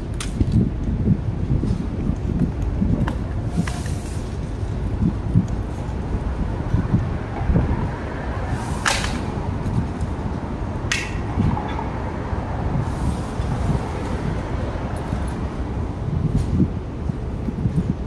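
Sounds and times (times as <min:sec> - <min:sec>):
passing street traffic: 0:00.0 - 0:18.0
wind rumble on microphone: 0:00.0 - 0:18.0.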